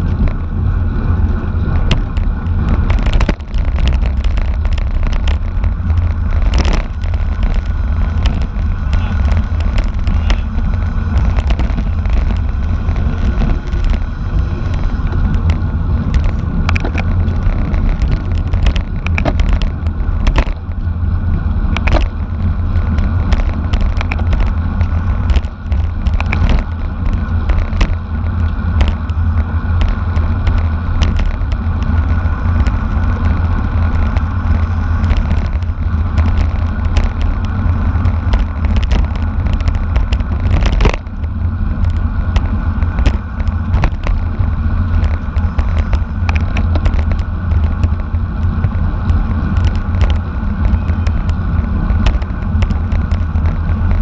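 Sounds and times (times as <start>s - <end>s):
bicycle clicks and rattles: 0.0s - 54.0s
wind rumble on microphone: 0.0s - 54.0s.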